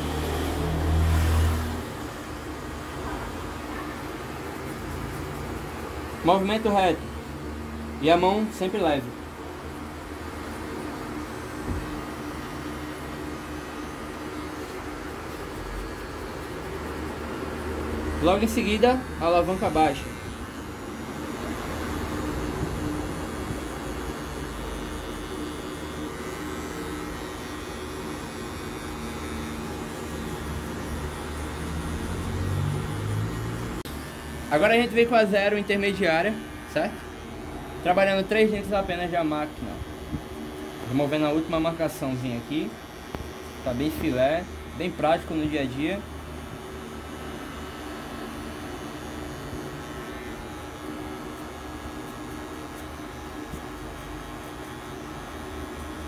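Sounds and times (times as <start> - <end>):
electric hair clipper buzzing: 0.0 - 56.0.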